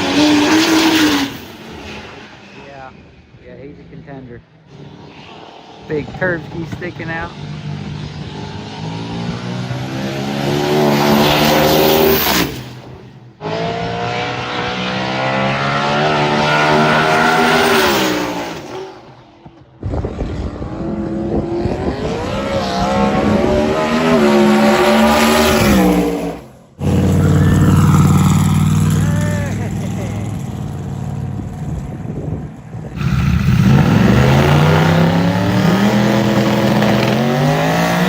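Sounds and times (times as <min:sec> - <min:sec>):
race vehicles accelerating: 0:00.0 - 0:03.0, 0:03.6 - 0:38.0.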